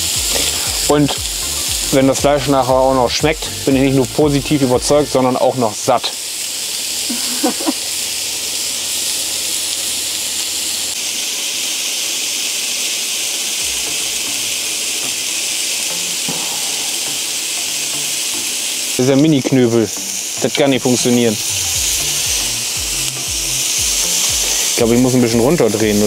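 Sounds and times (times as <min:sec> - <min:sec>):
skewers sizzling on grill: 0:00.0 - 0:26.0.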